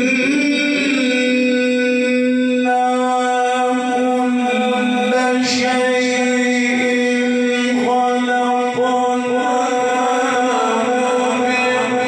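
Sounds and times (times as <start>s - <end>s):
man reciting melodically into microphone: 0.0s - 12.0s.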